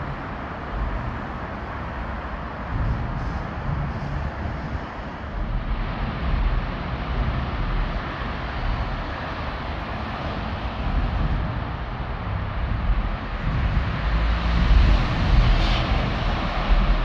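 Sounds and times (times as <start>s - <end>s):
road traffic rumble: 0.0s - 17.0s
wind on microphone: 0.0s - 17.0s.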